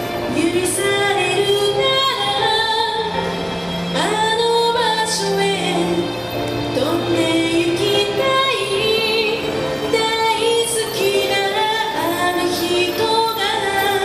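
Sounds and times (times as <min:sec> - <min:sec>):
woman singing into microphone: 0:00.2 - 0:14.0.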